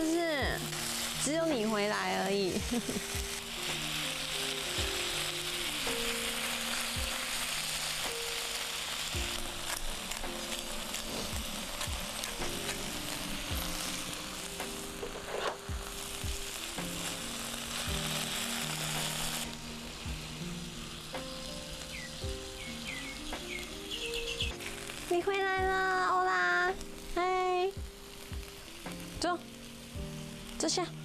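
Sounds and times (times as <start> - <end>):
meat and onions sizzling: 0.0 - 31.0
soft background music: 0.0 - 31.0.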